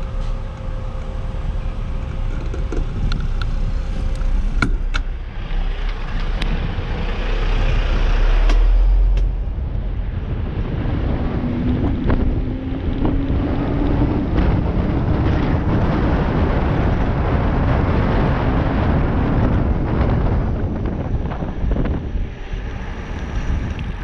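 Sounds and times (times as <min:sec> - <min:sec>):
faint low traffic hum: 0:00.0 - 0:24.0
wind rushing over microphone: 0:00.0 - 0:24.0.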